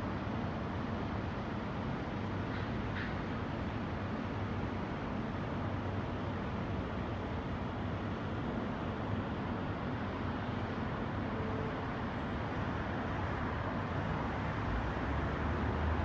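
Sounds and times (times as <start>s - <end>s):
city traffic hum: 0.0s - 16.0s.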